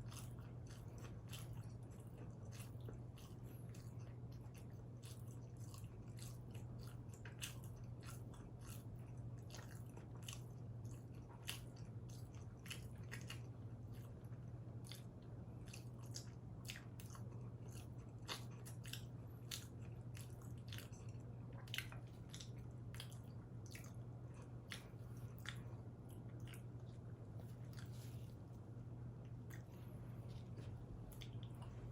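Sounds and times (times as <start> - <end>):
chewing and biting pizza: 0.0 - 31.9
steady low hum: 0.0 - 31.9.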